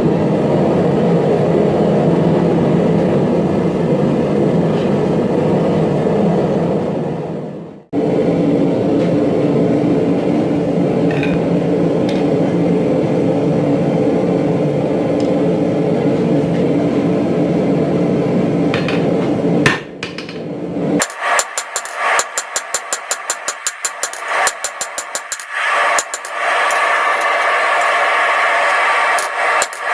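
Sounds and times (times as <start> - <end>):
mechanical drone of machinery: 0.0 - 29.9.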